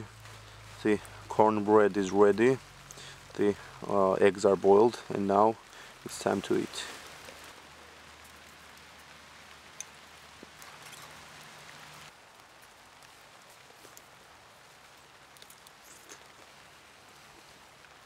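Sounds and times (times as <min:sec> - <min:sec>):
faint outdoor hiss: 0:00.0 - 0:18.0.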